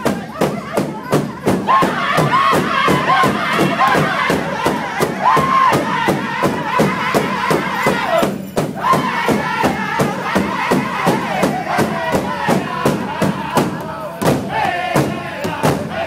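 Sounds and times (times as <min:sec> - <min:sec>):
big drum beat: 0:00.0 - 0:16.0
group singing in unison: 0:00.0 - 0:16.0.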